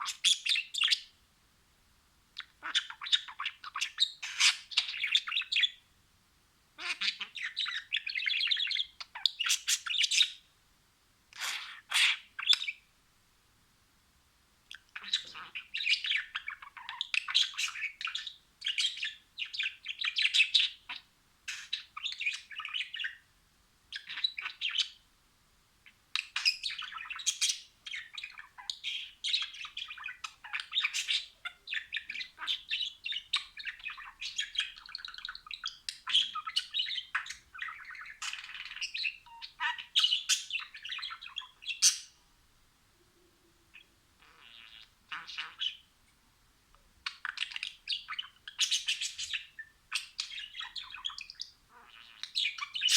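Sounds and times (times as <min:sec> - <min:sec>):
budgerigars warbling and chattering: 0:00.0 - 0:01.1, 0:02.4 - 0:05.8, 0:06.8 - 0:10.4, 0:11.4 - 0:12.8, 0:14.7 - 0:23.2, 0:23.9 - 0:25.0, 0:26.2 - 0:42.2, 0:43.7 - 0:45.9, 0:47.0 - 0:52.9.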